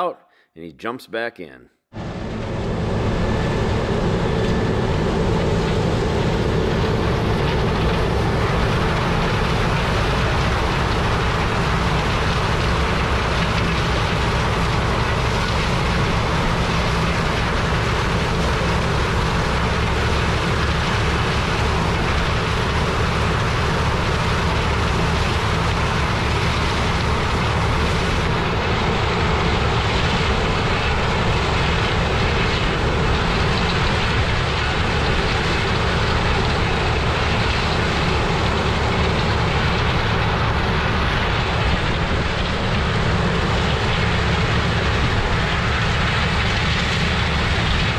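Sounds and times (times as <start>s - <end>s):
combine harvester engine drone: 1.9s - 47.9s.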